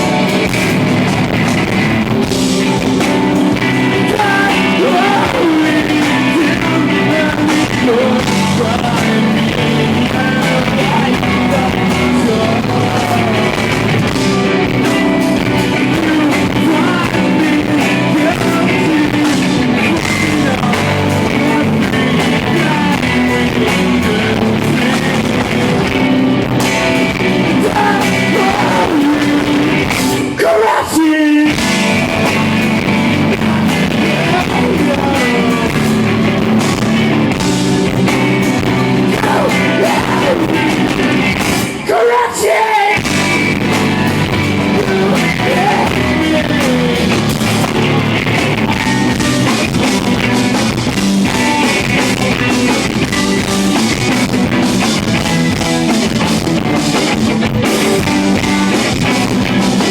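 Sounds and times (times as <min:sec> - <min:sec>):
electric guitar: 0:00.0 - 0:59.9
live rock band playing: 0:00.0 - 0:59.9
person singing: 0:02.2 - 0:56.4.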